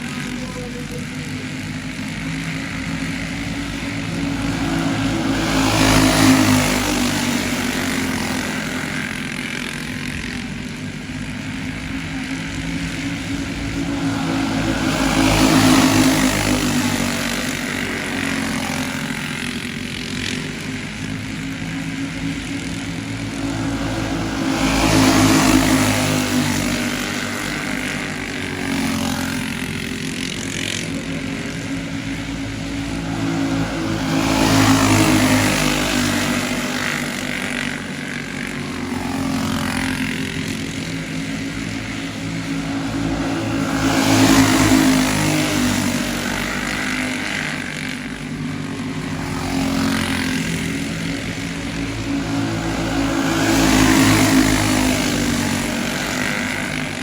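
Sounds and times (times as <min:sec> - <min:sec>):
go-kart engines passing: 0:00.0 - 0:57.0.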